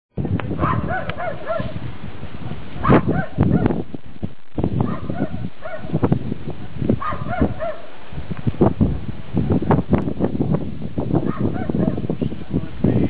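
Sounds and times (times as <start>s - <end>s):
wind rumble on microphone: 0.1s - 13.0s.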